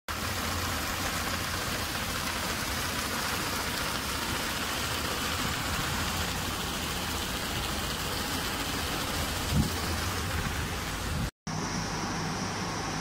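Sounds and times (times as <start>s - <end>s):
water pouring and splashing: 0.1s - 11.3s.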